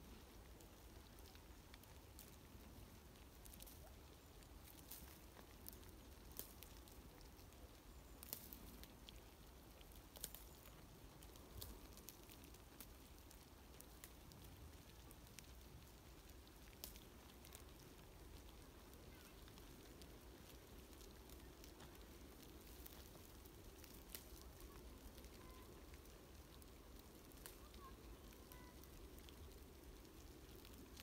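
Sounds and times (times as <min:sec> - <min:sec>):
soft clicks and crackles: 0:00.0 - 0:31.0.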